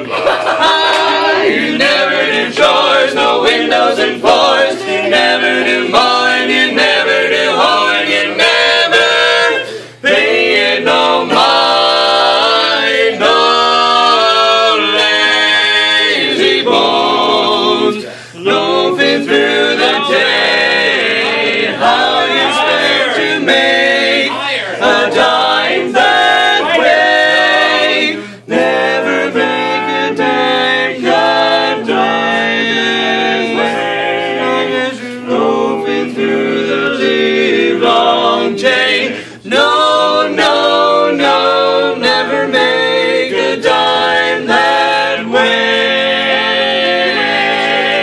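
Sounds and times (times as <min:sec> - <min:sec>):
men singing in close harmony: 0:00.0 - 0:48.0.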